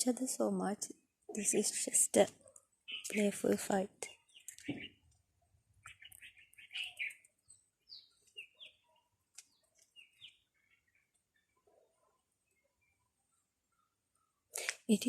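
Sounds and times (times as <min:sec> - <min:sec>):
birds chirping: 0:01.3 - 0:14.5.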